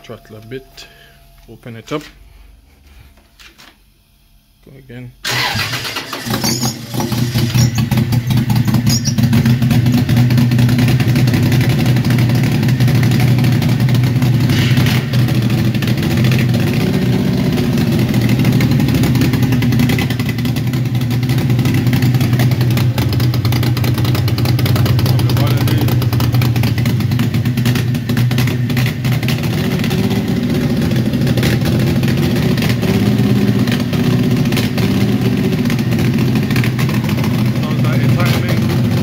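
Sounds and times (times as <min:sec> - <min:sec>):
car engine starting and running: 0:05.2 - 0:39.0.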